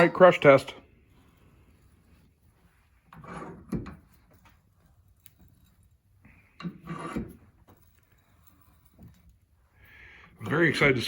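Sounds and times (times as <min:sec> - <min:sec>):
metal tube scraping and clattering: 0:00.0 - 0:11.0.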